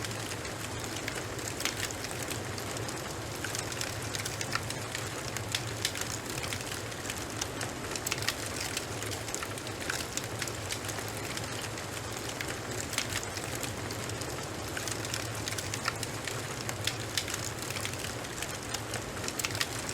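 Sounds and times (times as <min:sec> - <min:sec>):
fireplace fire crackling: 0:00.0 - 0:19.9.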